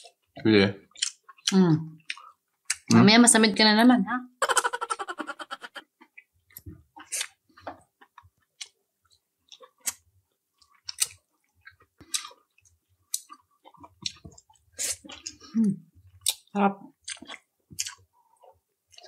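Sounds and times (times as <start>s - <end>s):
person chewing with mouth smacks: 0.0s - 3.0s, 5.8s - 19.0s.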